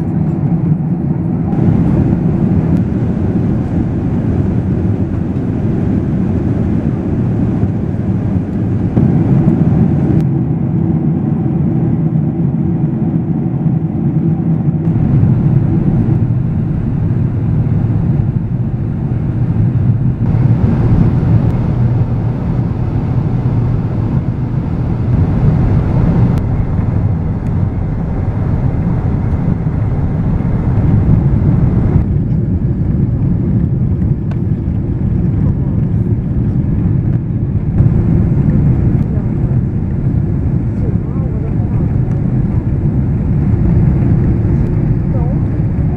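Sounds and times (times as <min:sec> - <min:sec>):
jet engines and airflow rumble: 0:00.0 - 0:45.9.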